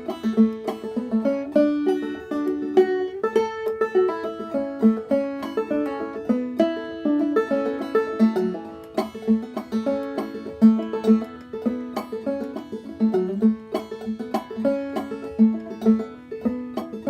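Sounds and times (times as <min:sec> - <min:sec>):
banjo picking: 0:00.0 - 0:17.0.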